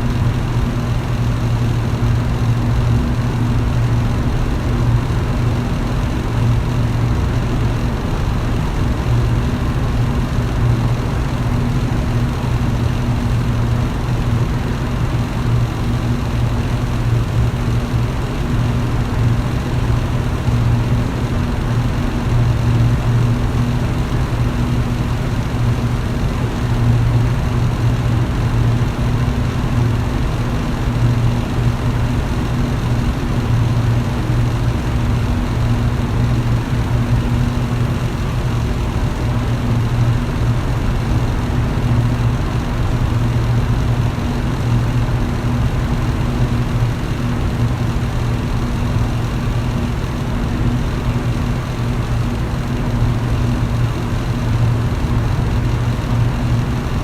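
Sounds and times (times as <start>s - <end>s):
electric fan motor hum: 0.0s - 57.0s.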